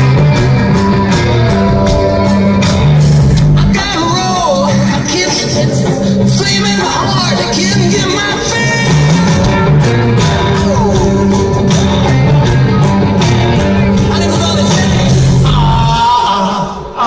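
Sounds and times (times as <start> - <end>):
heavy bass line: 0.0 - 16.6
electric guitar: 0.0 - 17.0
live rock band playing: 0.0 - 17.0.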